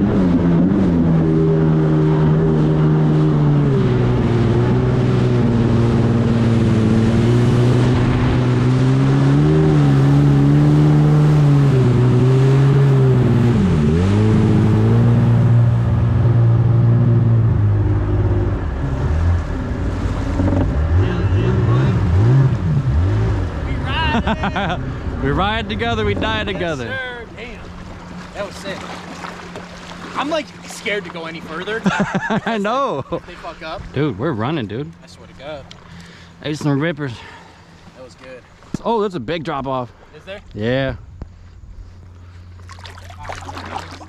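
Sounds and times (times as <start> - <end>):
wind and water rushing: 0.0 - 41.3, 42.5 - 44.0
jet ski engine: 0.0 - 44.0.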